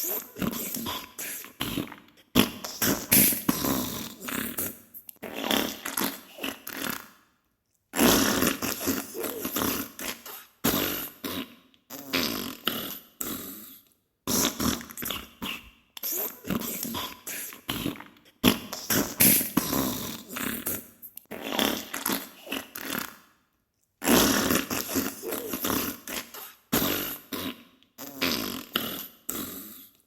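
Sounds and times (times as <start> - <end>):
sputtering fart noises: 0.0 - 7.2, 8.0 - 13.6, 14.3 - 23.2, 24.0 - 29.9.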